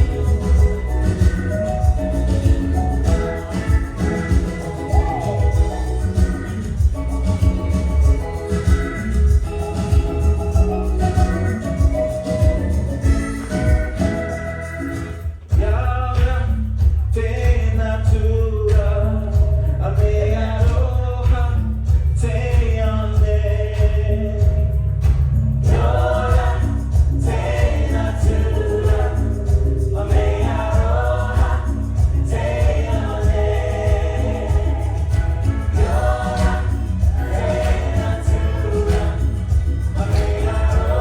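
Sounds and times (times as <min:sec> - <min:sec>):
group of voices singing: 0:00.0 - 0:24.7, 0:25.6 - 0:41.0
heavy bass beat: 0:00.0 - 0:41.0.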